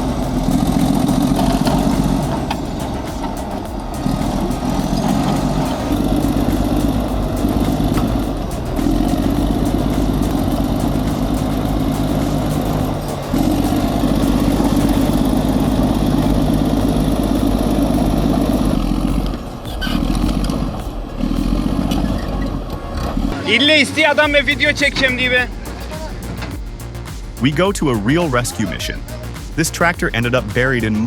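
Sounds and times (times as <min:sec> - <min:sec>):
heavy diesel engine under load: 0:00.0 - 0:26.6.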